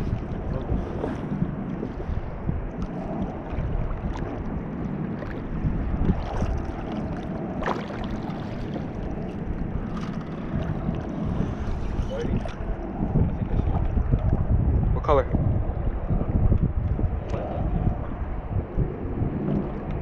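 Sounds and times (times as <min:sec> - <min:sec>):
water lapping against hull: 0:00.0 - 0:20.0
wind rumbling on microphone: 0:00.0 - 0:20.0.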